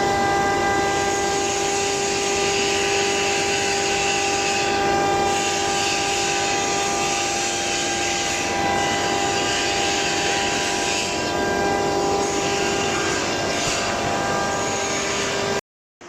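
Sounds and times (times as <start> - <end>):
cnc router cutting: 0.0 - 15.6.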